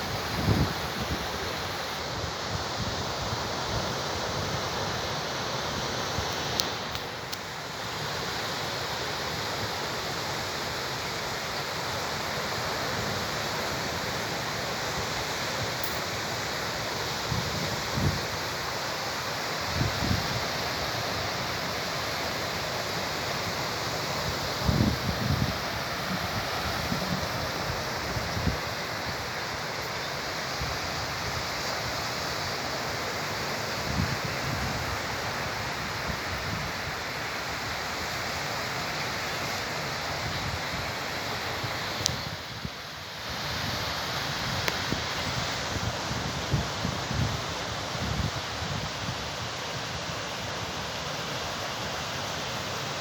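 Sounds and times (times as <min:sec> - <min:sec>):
sea surf washing ashore: 0:00.0 - 0:53.0.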